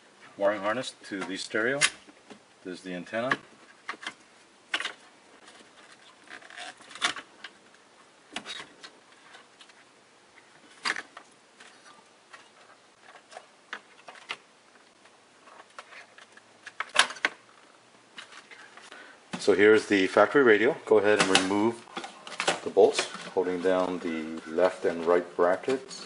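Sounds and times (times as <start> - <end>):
wires rustling: 0.3 - 26.0.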